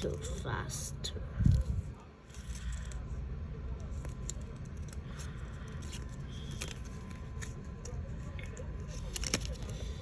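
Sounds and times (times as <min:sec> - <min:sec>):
rustling of card and paper: 0:01.4 - 0:10.0.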